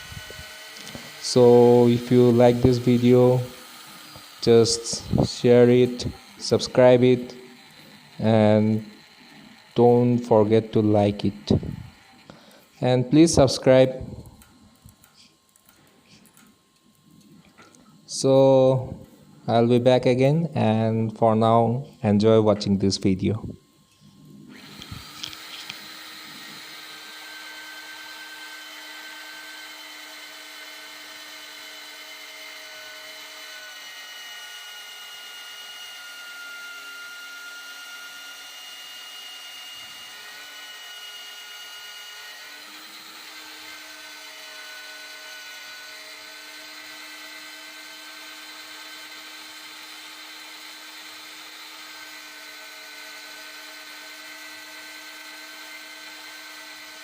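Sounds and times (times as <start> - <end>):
electric drill boring steel: 0.0 - 19.8, 23.6 - 57.0.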